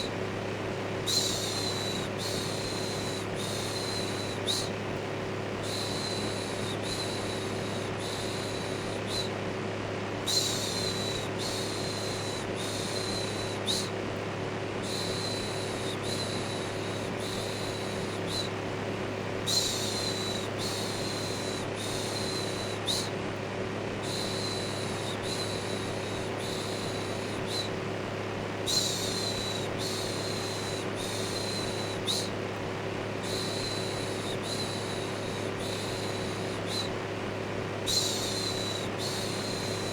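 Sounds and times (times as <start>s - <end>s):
electric fan humming: 0.0s - 39.9s.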